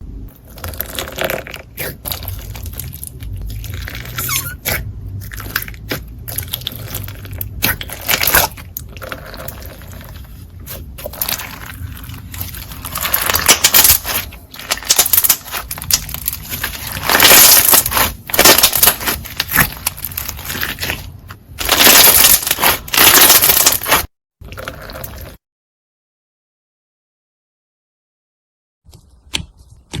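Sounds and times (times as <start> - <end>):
slime crackling and squishing: 0.3 - 25.4.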